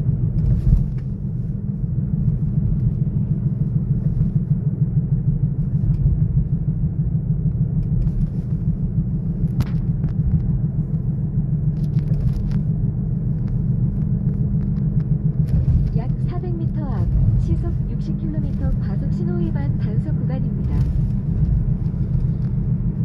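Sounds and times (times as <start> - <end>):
car engine low rumble: 0.0 - 23.0.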